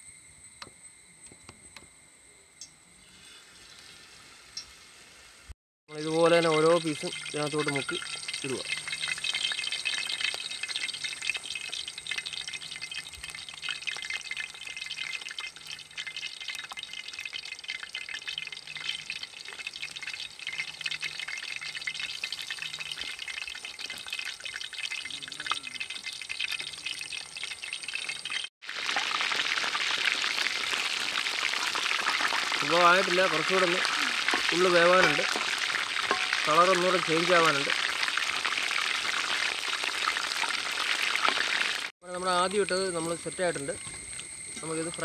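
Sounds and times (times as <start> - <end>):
chicken deep-frying in oil: 2.6 - 45.0.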